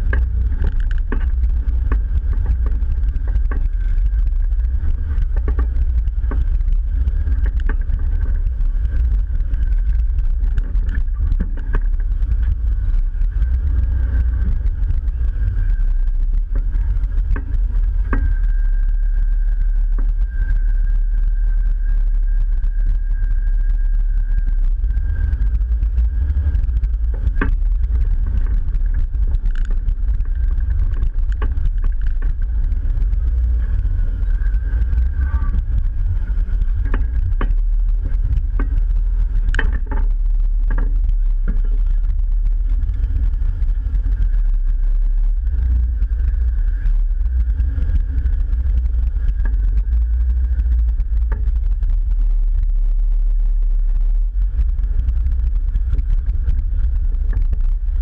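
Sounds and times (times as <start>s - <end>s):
engine rumbling at low speed: 0.0s - 58.0s.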